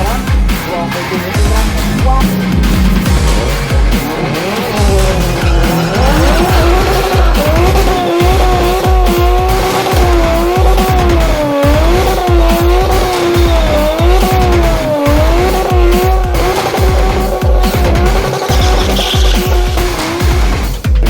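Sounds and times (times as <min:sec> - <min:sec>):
music with heavy bass beat: 0:00.0 - 0:21.0
wavering gliding lead tone: 0:01.4 - 0:20.3.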